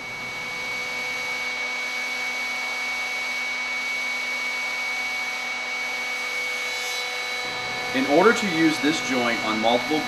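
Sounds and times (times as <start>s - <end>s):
router motor whine: 0.0s - 10.0s.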